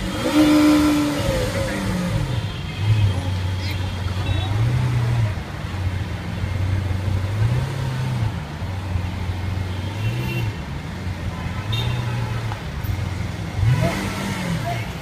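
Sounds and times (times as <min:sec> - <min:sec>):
car engine idling with throttle blips: 0:00.0 - 0:15.0.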